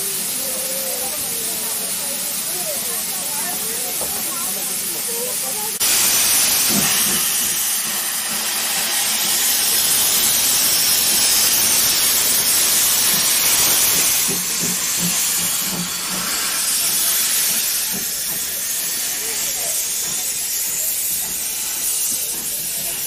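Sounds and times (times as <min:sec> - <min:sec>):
steam hissing from locomotive: 0:00.0 - 0:23.0.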